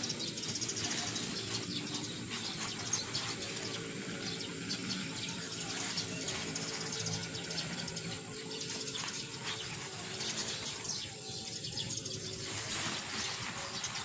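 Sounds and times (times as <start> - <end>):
dry rice hulls rustling and scraping: 0.0 - 14.0.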